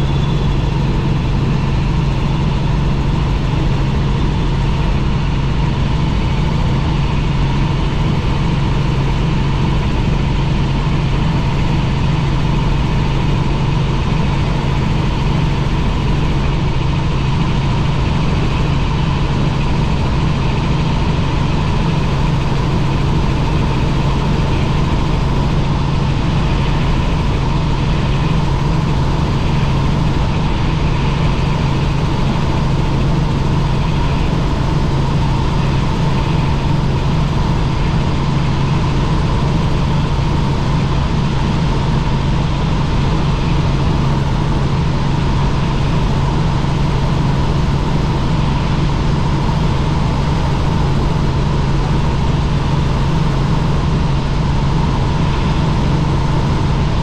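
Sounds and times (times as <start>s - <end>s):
helicopter low drone: 0.0s - 57.0s.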